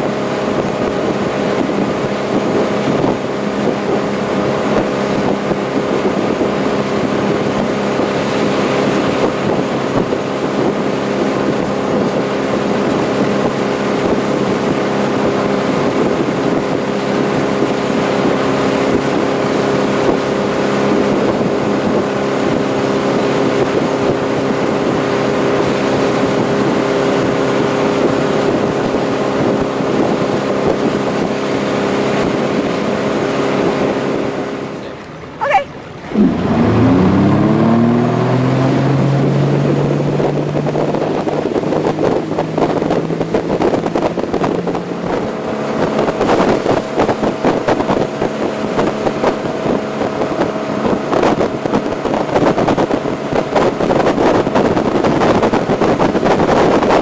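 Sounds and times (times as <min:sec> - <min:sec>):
boat engine running: 0:00.0 - 0:57.0
water rush: 0:00.0 - 0:57.0
wind rush: 0:00.0 - 0:57.0.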